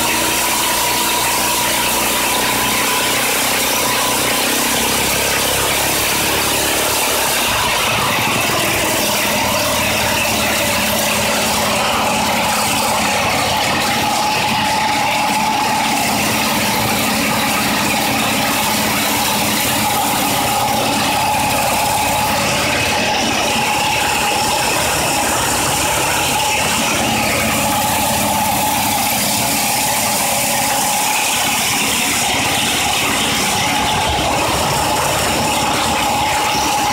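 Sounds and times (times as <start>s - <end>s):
small engine running at high speed: 0.0s - 36.9s.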